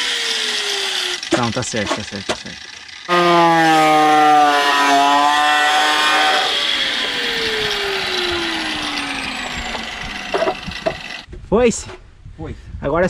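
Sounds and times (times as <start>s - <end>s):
angle grinder spinning down: 0.0s - 11.3s.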